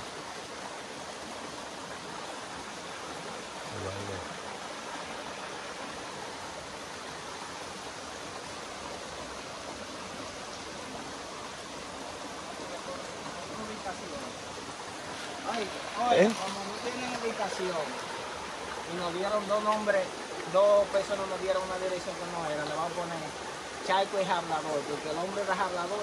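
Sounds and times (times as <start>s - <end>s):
stream rushing over rock: 0.0s - 26.0s.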